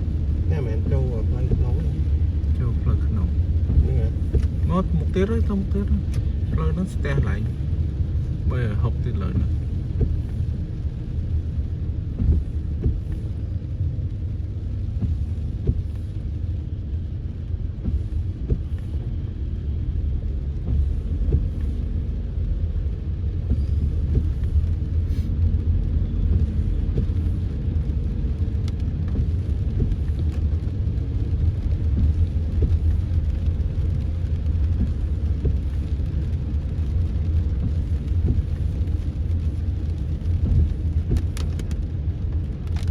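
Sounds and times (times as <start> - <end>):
car road and engine rumble: 0.0 - 42.9
faint rain ticks: 0.0 - 42.9.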